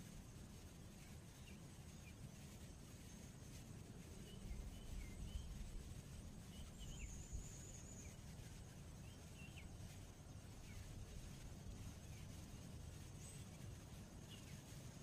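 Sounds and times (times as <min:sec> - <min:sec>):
faint low rumble: 0:00.0 - 0:15.0
small birds chirping: 0:00.0 - 0:15.0.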